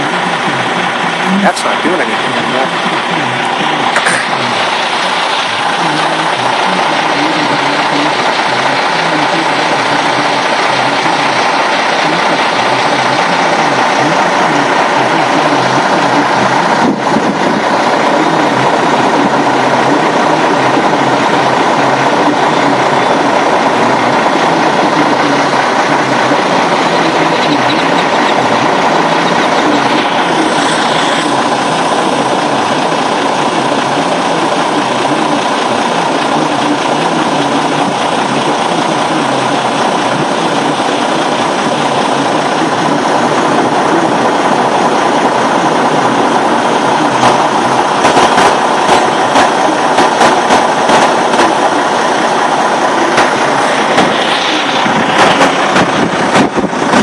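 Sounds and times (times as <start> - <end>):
storm wind and rain: 0.0 - 57.0.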